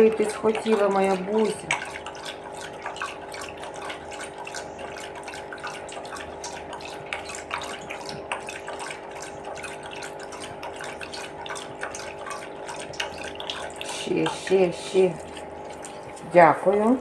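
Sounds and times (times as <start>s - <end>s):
dog lapping water: 0.0s - 17.0s.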